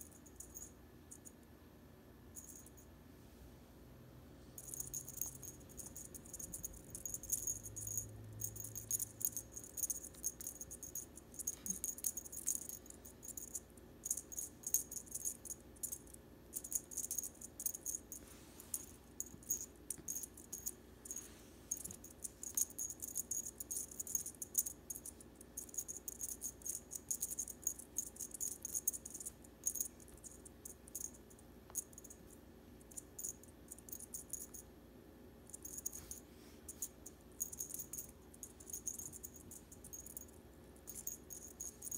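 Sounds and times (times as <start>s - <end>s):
cat toy jingling and rattling: 4.6s - 32.2s, 32.9s - 34.6s, 35.5s - 41.9s.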